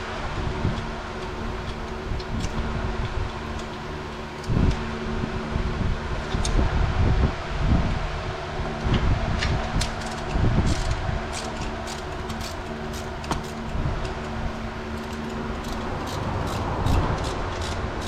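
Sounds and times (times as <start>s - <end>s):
machine hum with low rumble: 0.0s - 18.0s.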